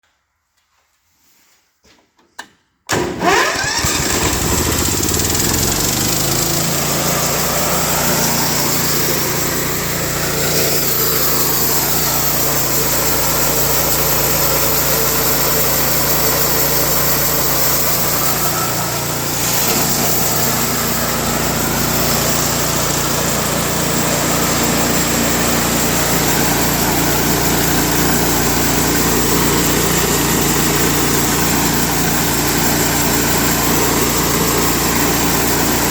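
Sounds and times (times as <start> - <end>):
sawmill engine starting and running: 2.9 - 35.9.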